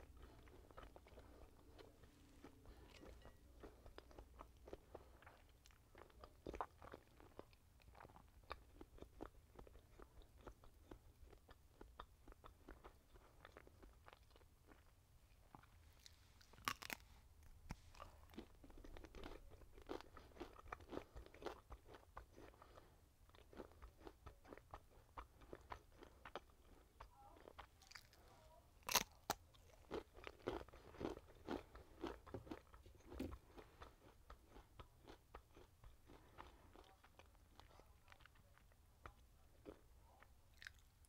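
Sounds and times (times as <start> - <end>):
bacon being bitten and chewed: 0.0 - 41.0.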